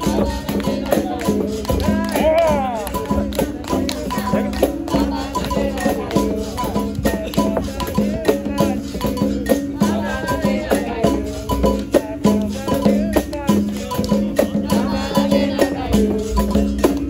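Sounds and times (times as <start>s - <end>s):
hand percussion rhythm: 0.0s - 17.0s
shaker rattle: 0.0s - 17.0s
voices singing: 0.0s - 17.0s.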